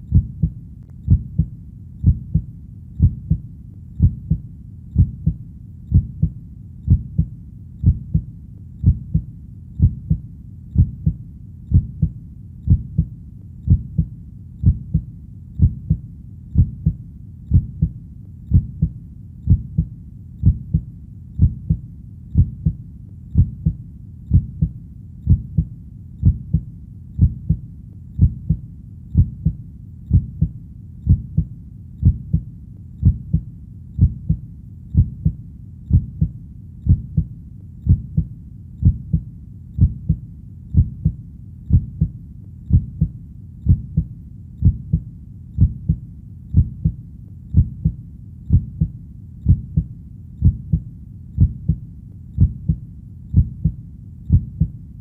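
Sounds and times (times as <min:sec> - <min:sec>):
heartbeat thumps: 0:00.0 - 0:27.6, 0:28.2 - 0:54.8
faint low hum: 0:00.0 - 0:55.0.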